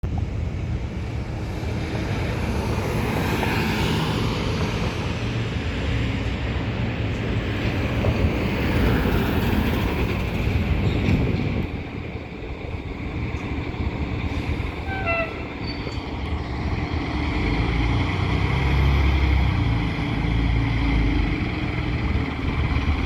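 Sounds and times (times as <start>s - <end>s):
fire engine rumble: 0.0s - 23.0s
road and wind hiss: 0.0s - 23.0s.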